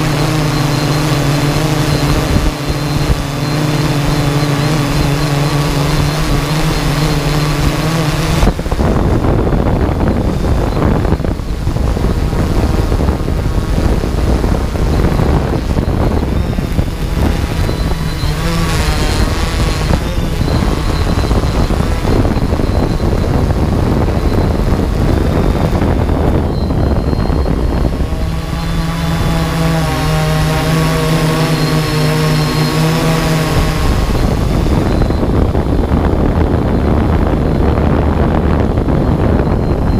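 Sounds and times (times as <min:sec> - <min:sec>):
drone motors whining: 0:00.0 - 0:39.9
wind buffeting microphone: 0:00.0 - 0:39.9.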